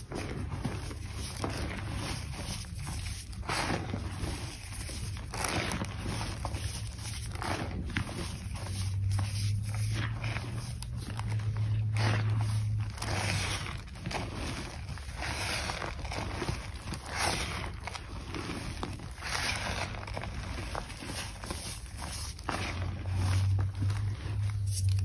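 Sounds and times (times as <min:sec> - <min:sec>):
chalk crunching and crumbling: 0:00.0 - 0:25.0
powder sifting through fingers: 0:00.0 - 0:25.0.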